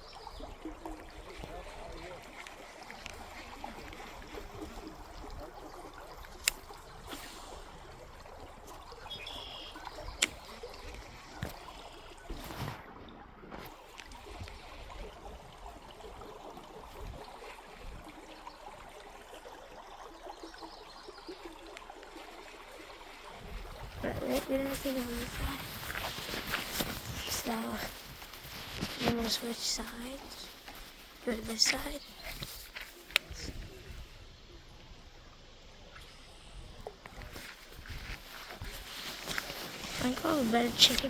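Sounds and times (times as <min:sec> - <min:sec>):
creek water running: 0:00.0 - 0:41.0.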